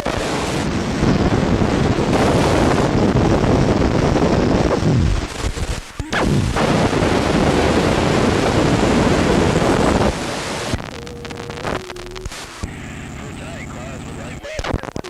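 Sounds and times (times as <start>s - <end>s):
loud dense rumbling: 0.0s - 14.6s.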